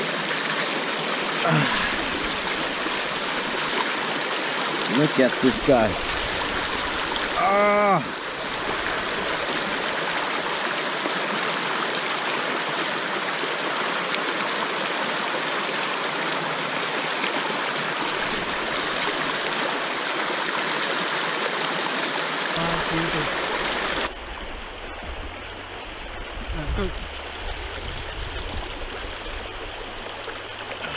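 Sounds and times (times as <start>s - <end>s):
river rushing over rocks: 0.0s - 30.9s.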